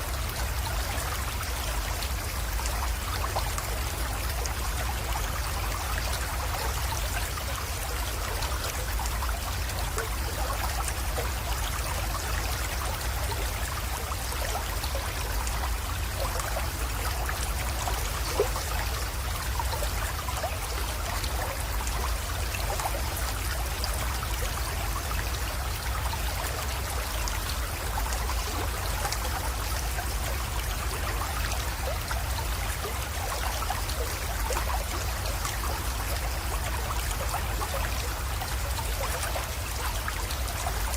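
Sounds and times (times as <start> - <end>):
creek water trickling: 0.0 - 40.9.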